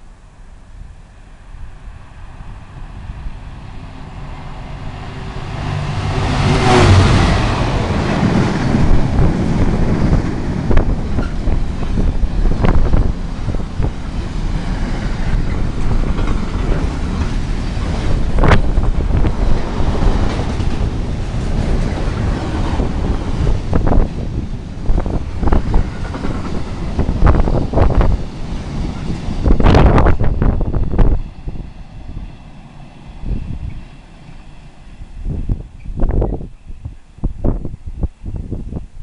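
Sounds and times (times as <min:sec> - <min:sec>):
freight train passing: 0:00.0 - 0:39.0
wagons rumbling on rails: 0:01.3 - 0:38.7.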